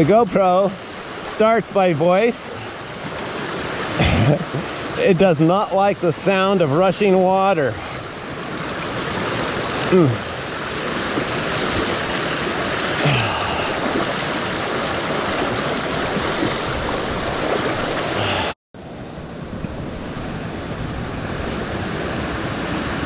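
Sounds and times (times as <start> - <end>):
rushing creek water: 0.0 - 18.6.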